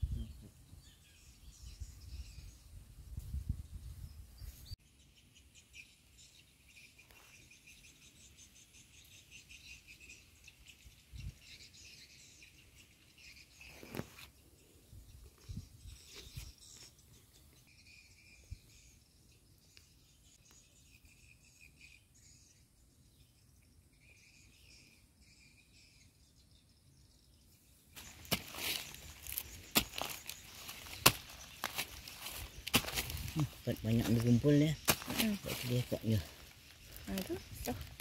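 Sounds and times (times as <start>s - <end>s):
insects and birds chirping: 0.0s - 38.0s.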